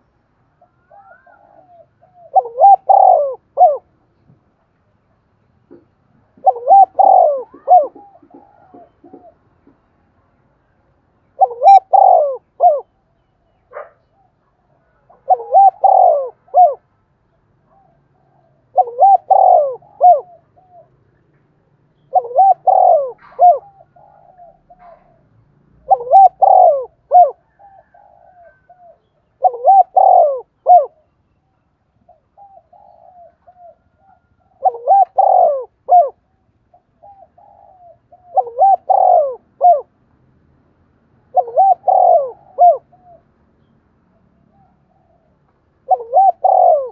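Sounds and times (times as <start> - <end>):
dove cooing: 0.0 - 4.0, 5.7 - 10.0, 11.2 - 16.9, 17.6 - 21.4, 22.0 - 31.1, 32.0 - 40.0, 41.2 - 43.4, 44.1 - 46.9.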